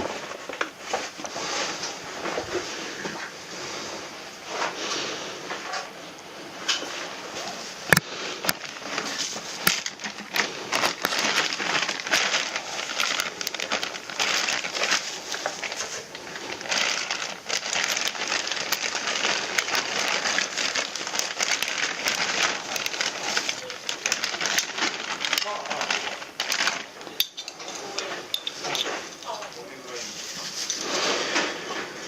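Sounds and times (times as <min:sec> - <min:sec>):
crinkling and rustling handling noise: 0:00.0 - 0:32.0.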